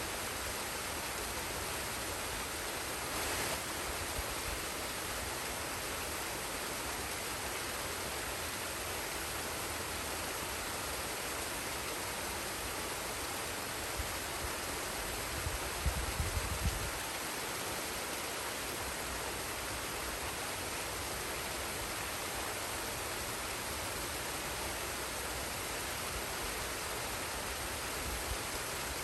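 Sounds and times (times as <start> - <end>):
waterfall and stream rushing: 0.0 - 29.0.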